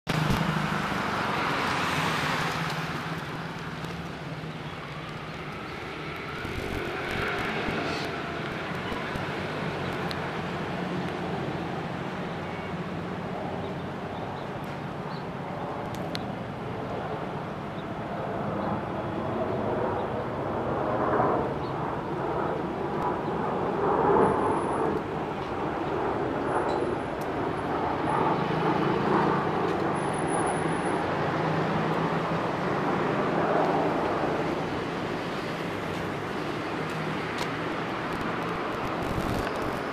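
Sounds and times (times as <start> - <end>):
city street traffic: 0.0 - 39.9
jet engines rumbling overhead: 0.1 - 39.9.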